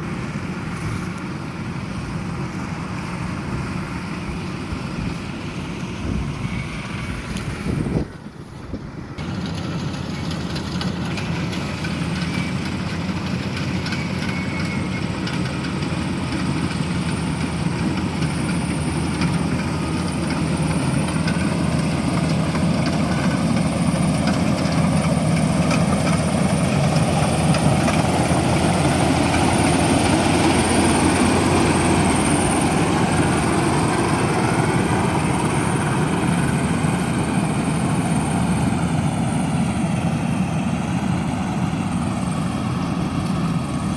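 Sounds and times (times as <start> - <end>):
combine harvester running: 0.0 - 43.9.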